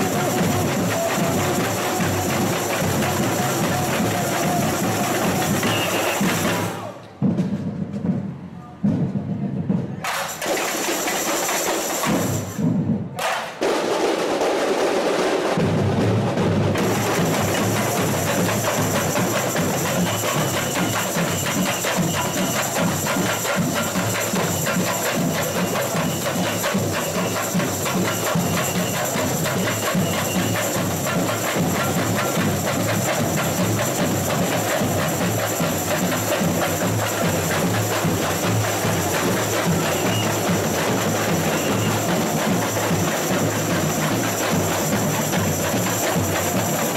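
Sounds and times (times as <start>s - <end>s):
samba drum ensemble playing: 0.0s - 46.9s.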